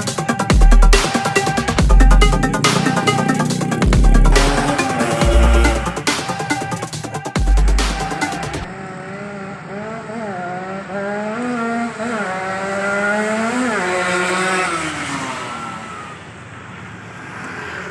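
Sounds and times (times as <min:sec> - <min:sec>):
two-stroke motorcycle engine revving: 0:00.0 - 0:16.3.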